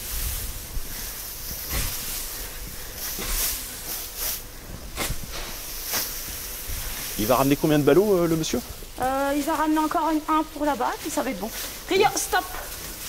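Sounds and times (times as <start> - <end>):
dry straw rustling and swishing: 0.0 - 13.0
steady hiss: 0.0 - 13.0.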